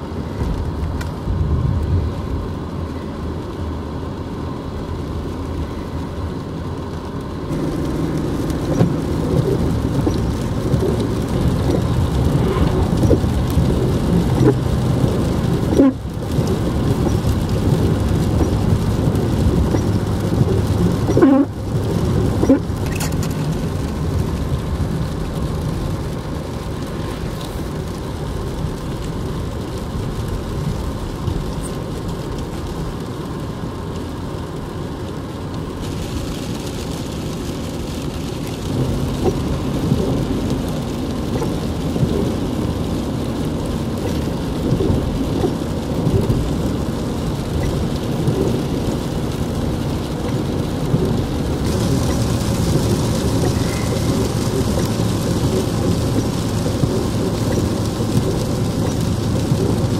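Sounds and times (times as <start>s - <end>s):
car engine rumble: 0.0s - 59.9s
road noise: 0.0s - 59.9s.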